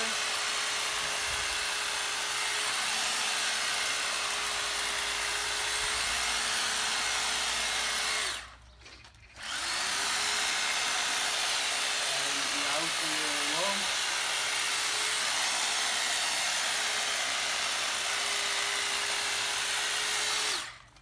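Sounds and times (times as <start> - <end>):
electric hedge trimmer running: 0.0 - 8.6, 9.4 - 21.0.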